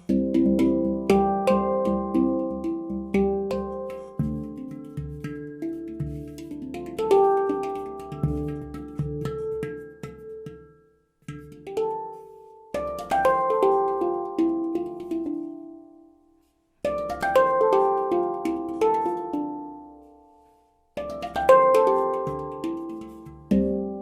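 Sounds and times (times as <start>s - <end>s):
handpan notes ringing: 0.0s - 16.1s, 16.8s - 24.0s.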